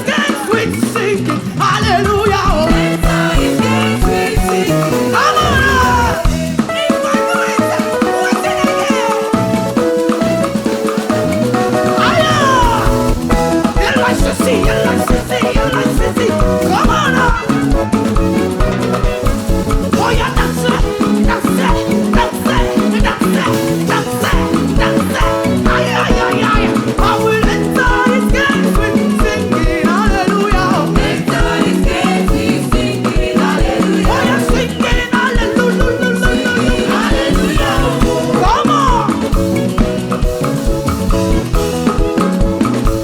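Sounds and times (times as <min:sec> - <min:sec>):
steady drum beat: 0:00.0 - 0:43.0
upbeat praise music band: 0:00.0 - 0:43.0
bass line: 0:00.6 - 0:06.8, 0:09.4 - 0:43.0.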